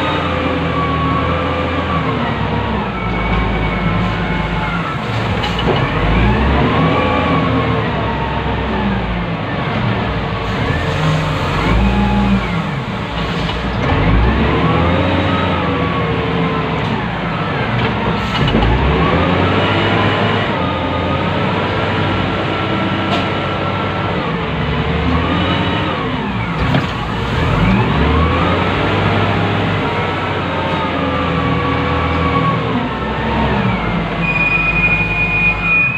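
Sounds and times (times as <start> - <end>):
diesel engine revving: 0.0 - 35.9.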